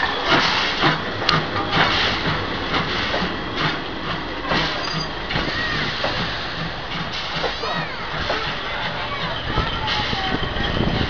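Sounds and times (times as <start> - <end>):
steam locomotive rumble and hiss: 0.0 - 11.0.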